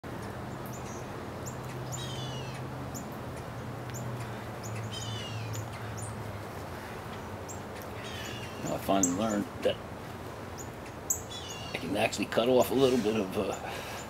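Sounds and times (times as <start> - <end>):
bird calls with falling notes: 0.5 - 3.1, 3.9 - 9.8, 10.5 - 14.0.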